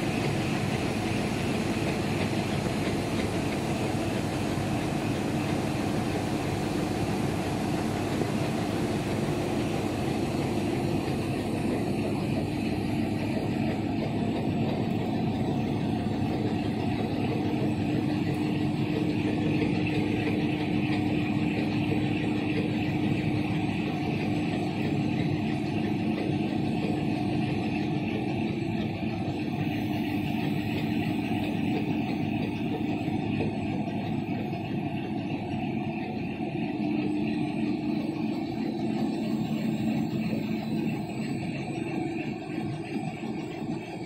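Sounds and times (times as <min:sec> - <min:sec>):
low machine hum: 0:00.0 - 0:44.0
printing machine running: 0:00.0 - 0:44.0.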